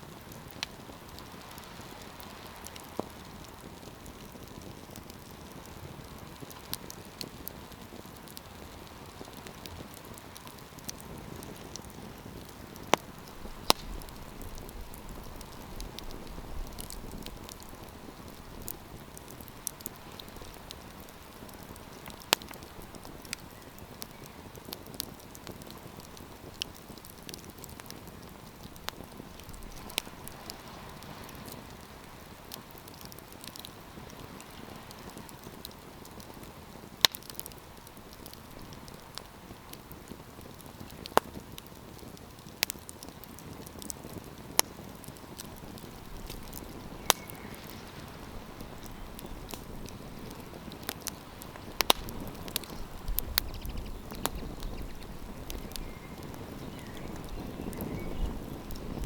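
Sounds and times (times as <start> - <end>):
campfire crackling: 0.0 - 59.0
sharp pops and snaps: 8.0 - 31.9, 32.5 - 59.0.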